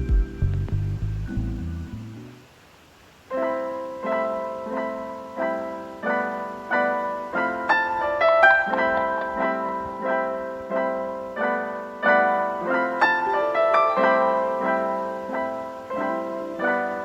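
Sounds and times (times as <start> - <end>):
slow piano melody: 0.0 - 2.4, 3.3 - 17.0.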